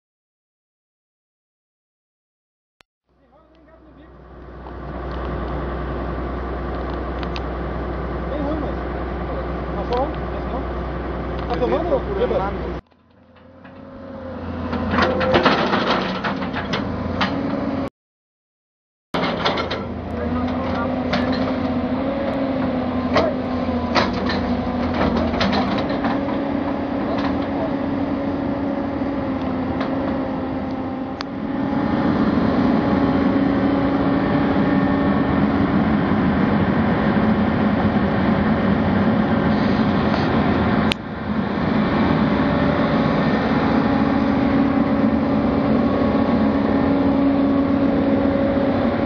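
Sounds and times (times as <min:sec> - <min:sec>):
excavator diesel engine: 0:03.1 - 0:17.9, 0:19.2 - 0:49.0.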